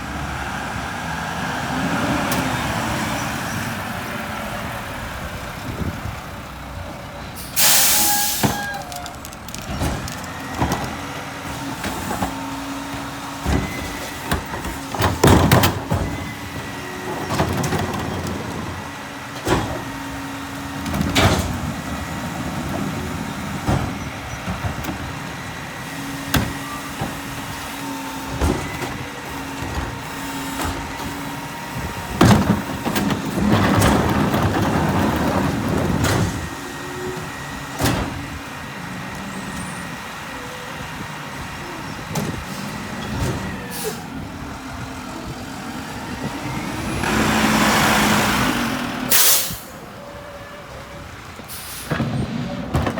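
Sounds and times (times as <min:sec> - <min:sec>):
garbage truck diesel engine running: 0:00.0 - 0:52.9.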